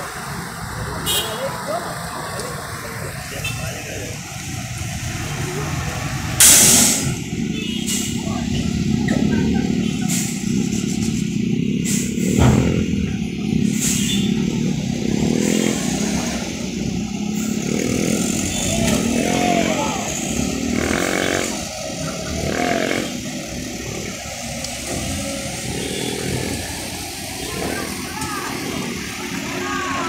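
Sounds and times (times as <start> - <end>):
diesel truck engines revving: 0.0 - 30.0
people's voices: 0.0 - 30.0
vehicles idling and passing: 0.0 - 30.0.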